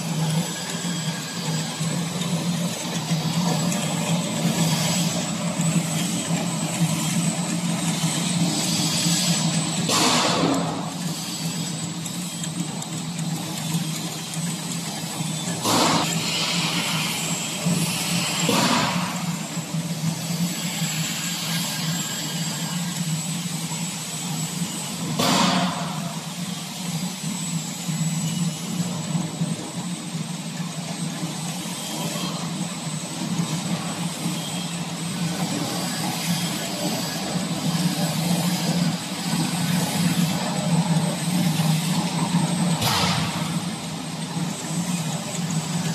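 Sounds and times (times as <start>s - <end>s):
chain conveyor humming and whining: 0.0s - 45.9s.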